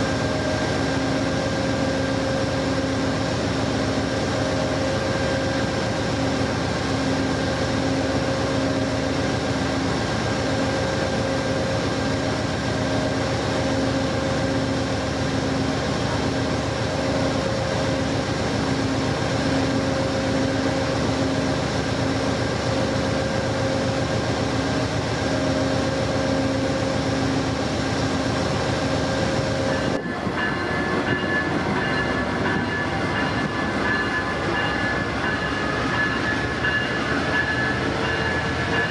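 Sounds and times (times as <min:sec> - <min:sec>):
passenger train rumbling: 0:00.0 - 0:38.9
train hum at several pitches: 0:00.0 - 0:38.9.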